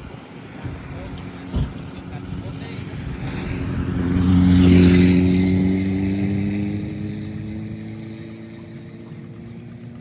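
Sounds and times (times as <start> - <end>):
small engine passing by: 0.2 - 10.0.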